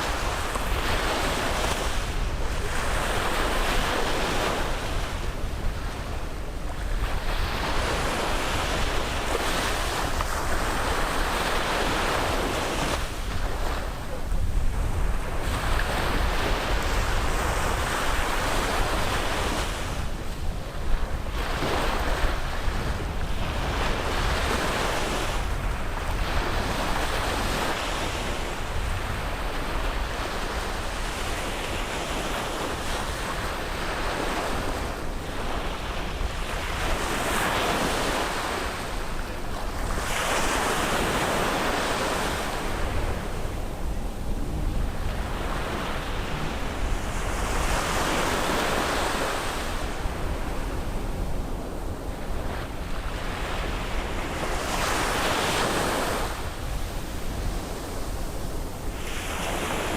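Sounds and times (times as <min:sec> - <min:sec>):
sea waves breaking on beach: 0:00.0 - 0:59.9
wind rumble on microphone: 0:00.0 - 0:59.9.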